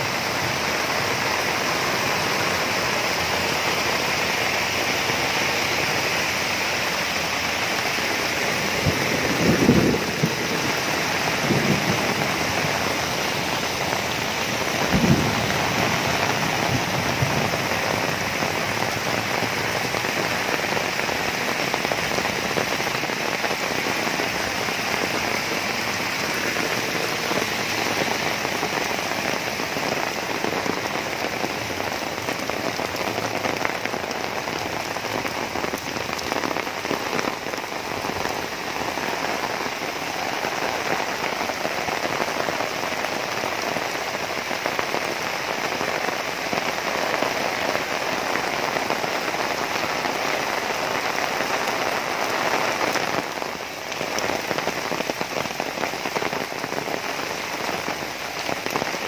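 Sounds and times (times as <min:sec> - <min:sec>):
heavy rain on pavement and foliage: 0:00.0 - 0:59.0.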